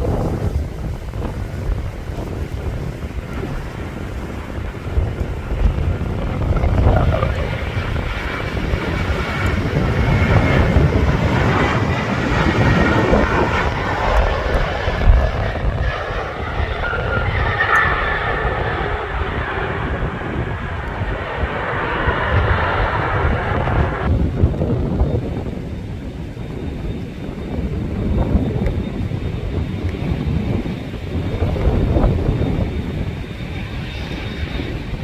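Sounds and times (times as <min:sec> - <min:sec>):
jet engines roaring: 0:00.0 - 0:35.0
high engine whine: 0:02.3 - 0:35.0.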